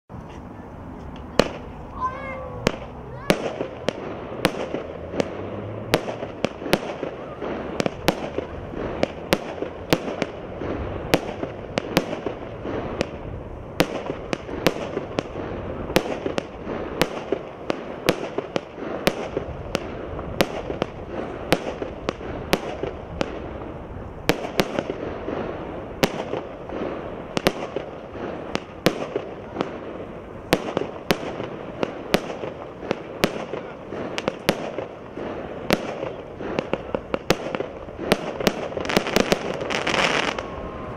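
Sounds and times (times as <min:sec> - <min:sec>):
fireworks shots bursting: 0:01.0 - 0:40.9.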